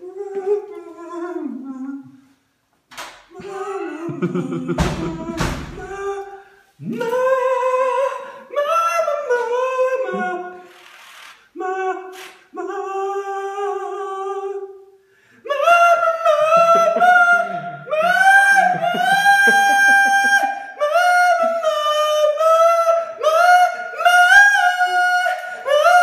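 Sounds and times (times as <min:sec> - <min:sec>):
man singing unaccompanied: 0:00.0 - 0:02.3, 0:03.3 - 0:10.6, 0:11.5 - 0:26.0.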